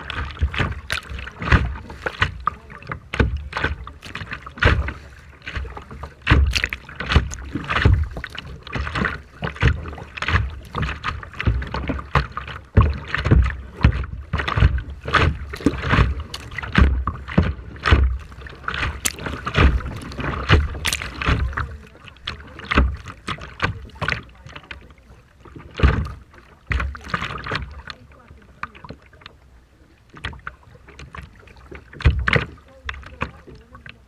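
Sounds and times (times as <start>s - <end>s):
rough sea water splashing: 0.0s - 34.0s.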